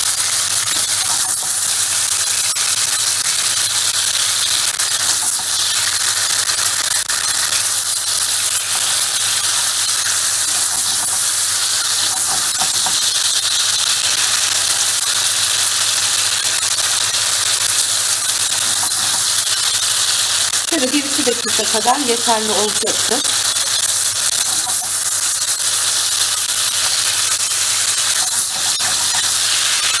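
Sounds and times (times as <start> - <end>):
mushrooms sizzling in oil: 0.0 - 30.0
spatula stirring in a pan: 0.1 - 20.4, 21.0 - 30.0.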